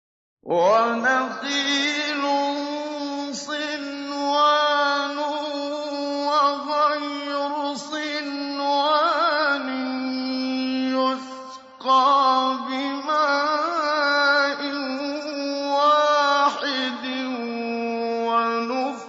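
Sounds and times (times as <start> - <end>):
man reciting melodically: 0.4 - 19.0.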